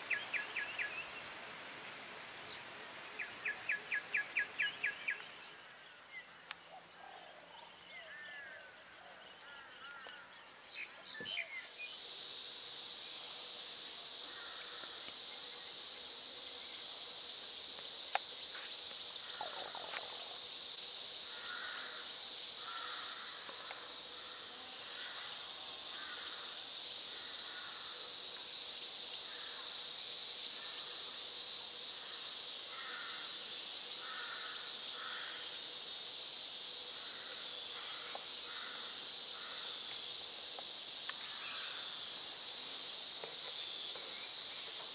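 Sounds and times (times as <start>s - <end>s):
insect chorus buzzing: 0.0s - 44.9s.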